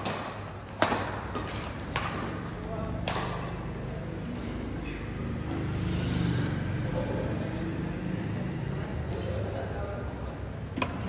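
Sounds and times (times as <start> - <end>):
low rumble of sports hall: 0.0 - 11.0.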